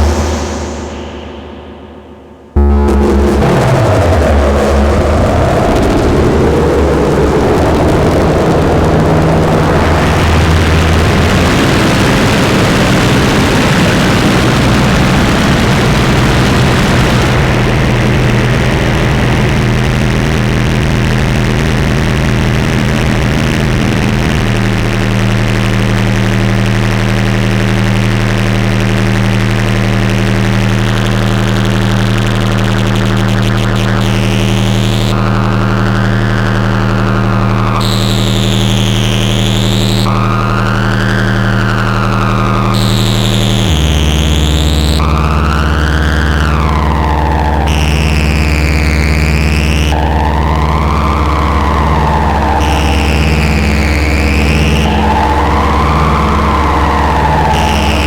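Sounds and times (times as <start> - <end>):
synthesizer drone: 0.0 - 58.0.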